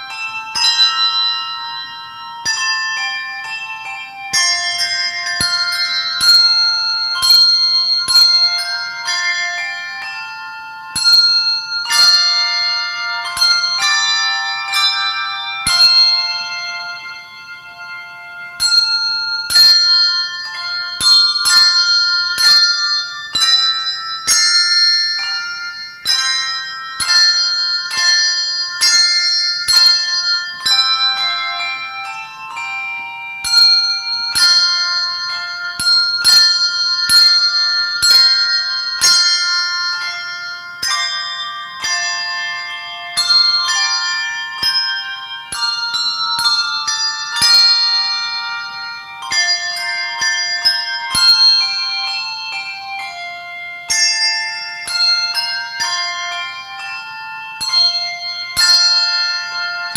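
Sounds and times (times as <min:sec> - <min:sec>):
handbell choir playing: 0:00.0 - 0:59.9.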